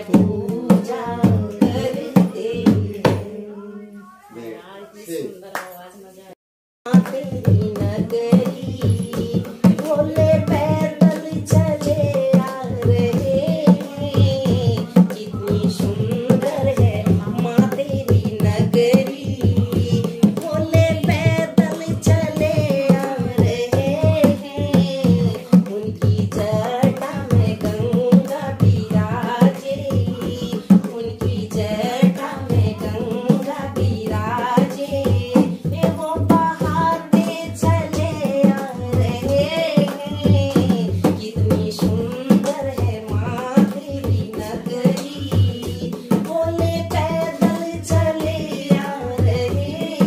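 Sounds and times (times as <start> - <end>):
women singing devotional song: 0.0 - 4.5, 6.9 - 50.0
hand drum playing: 6.9 - 50.0.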